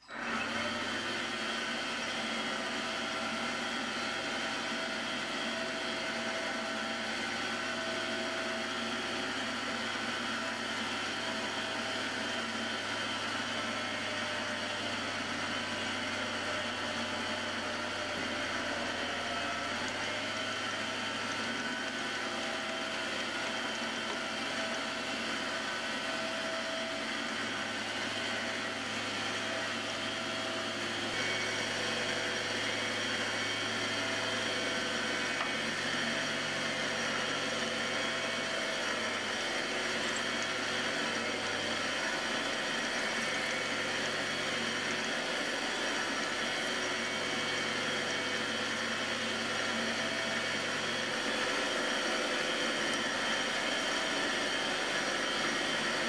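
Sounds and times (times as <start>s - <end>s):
drill bit cutting workpiece: 0.0s - 56.0s
lathe motor and gear whine: 0.0s - 56.0s.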